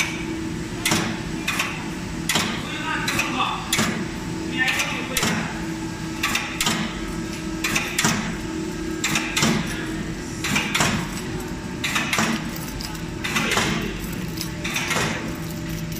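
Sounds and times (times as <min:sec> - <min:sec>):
steady machine hum: 0:00.0 - 0:15.9.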